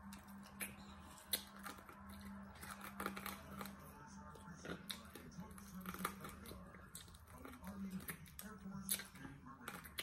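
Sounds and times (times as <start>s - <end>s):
chewing burger: 0.0s - 10.0s.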